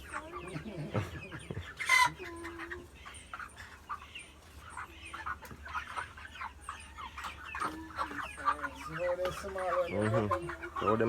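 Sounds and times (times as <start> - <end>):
baby chicks peeping: 0.0 - 11.0
chicken calls: 0.0 - 11.0.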